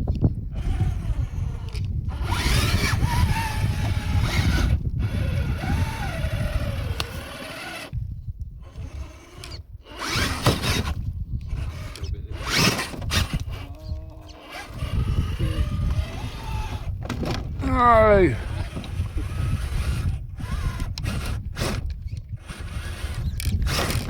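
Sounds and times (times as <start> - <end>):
electric motor whirring: 0.1 - 24.0.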